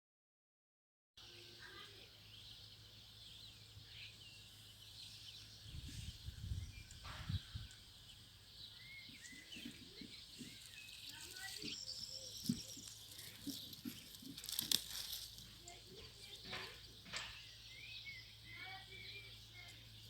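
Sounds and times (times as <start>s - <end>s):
birds chirping: 1.2s - 20.0s.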